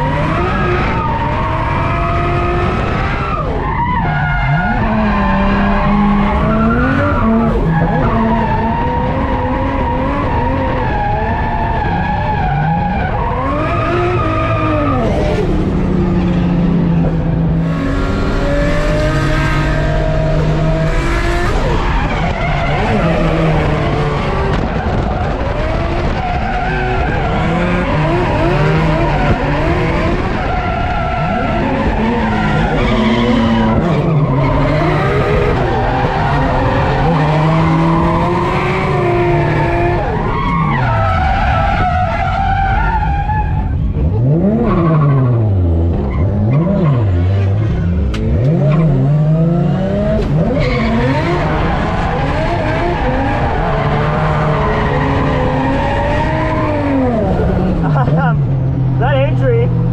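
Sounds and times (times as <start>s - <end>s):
car engine revving high: 0.0s - 59.9s
tyres skidding: 0.0s - 59.9s.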